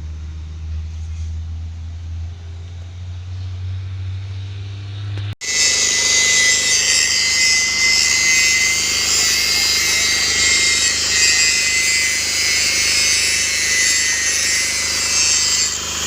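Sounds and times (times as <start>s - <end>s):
drill rig engine hum: 0.0s - 16.0s.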